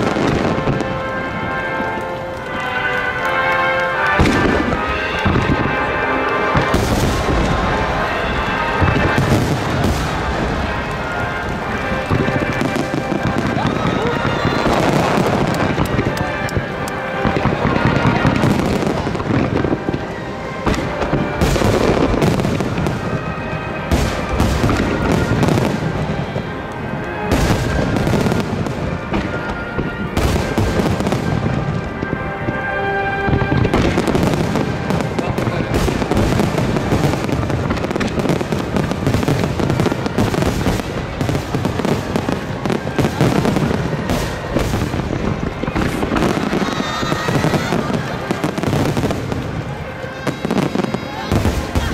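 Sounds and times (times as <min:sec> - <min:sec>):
music playing: 0:00.0 - 0:51.9.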